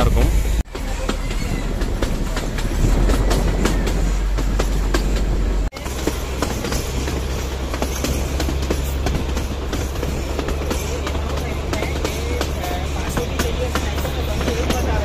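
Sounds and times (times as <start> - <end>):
train rumbling: 0.0 - 15.0
wheels clicking over rail joints: 0.7 - 15.0.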